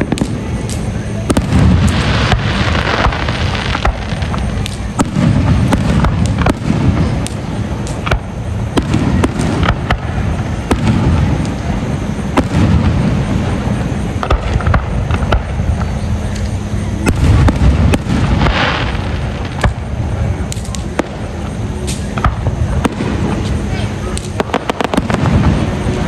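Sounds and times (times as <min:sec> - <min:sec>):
deep fireworks booms: 0:00.0 - 0:26.0
fireworks cracking and popping: 0:00.0 - 0:26.0.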